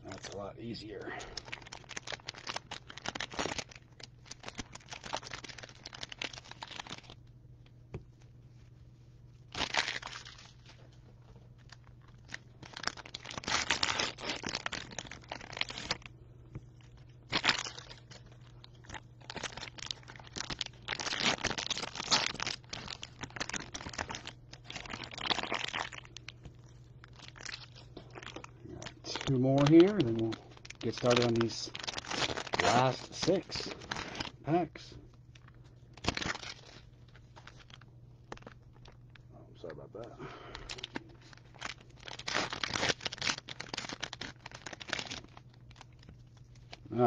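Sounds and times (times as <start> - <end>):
cellophane wrappers crinkling and tearing: 0.0 - 7.3, 9.4 - 47.0.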